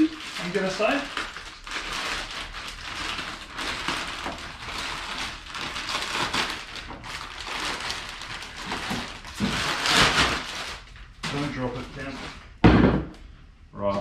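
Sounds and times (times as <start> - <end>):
packaging rustling and crinkling: 0.0 - 12.6.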